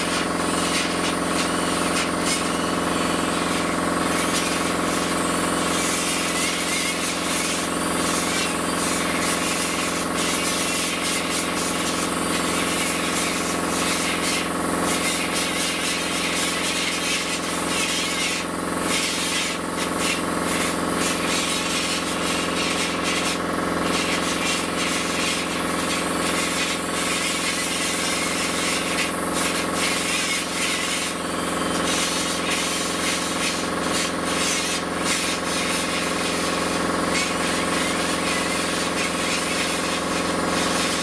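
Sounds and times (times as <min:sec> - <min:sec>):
die grinder grinding metal: 0:00.0 - 0:41.0.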